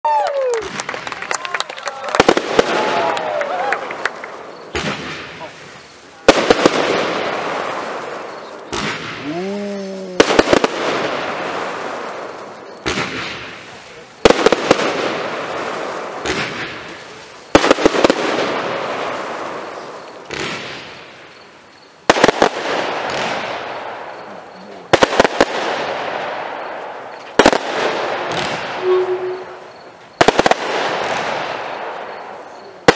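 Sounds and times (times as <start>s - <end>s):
fireworks bangs: 0.1s - 32.9s
fireworks crackle: 0.1s - 32.9s.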